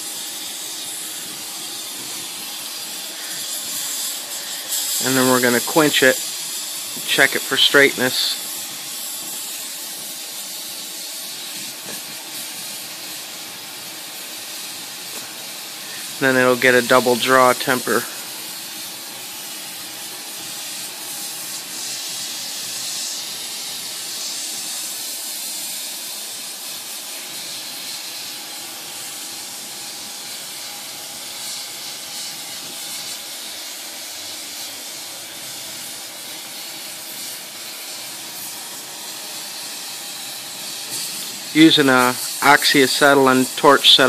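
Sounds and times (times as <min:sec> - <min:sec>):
torch flame hissing: 0:00.0 - 0:44.0.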